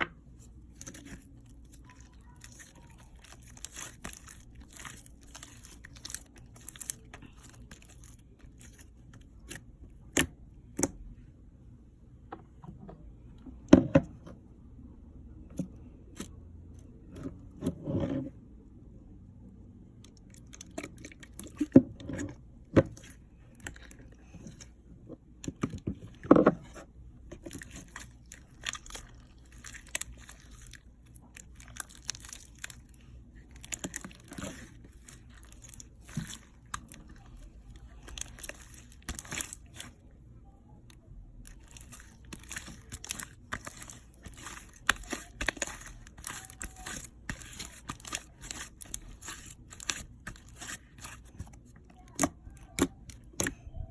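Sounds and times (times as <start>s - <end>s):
slime squishing: 0.0s - 11.1s, 19.9s - 53.9s
slime squelch: 0.1s - 11.1s, 19.9s - 24.9s, 25.5s - 53.9s.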